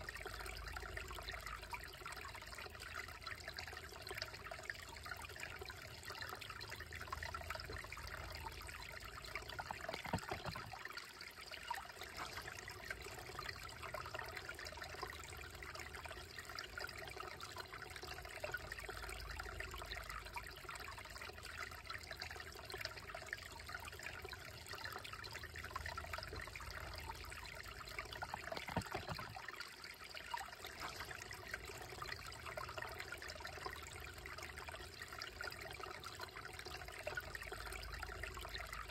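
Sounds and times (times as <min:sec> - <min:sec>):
creek babbling over stones: 0:00.0 - 0:38.9.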